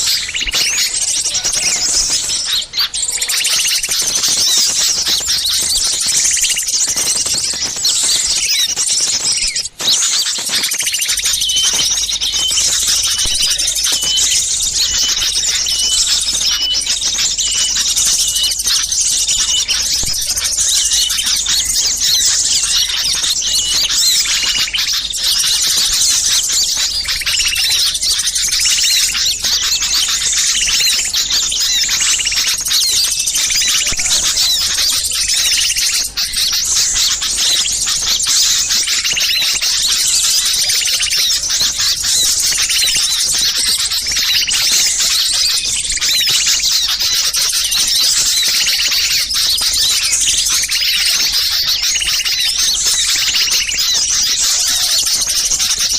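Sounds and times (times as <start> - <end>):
small birds chirping and chattering: 0.0 - 55.9.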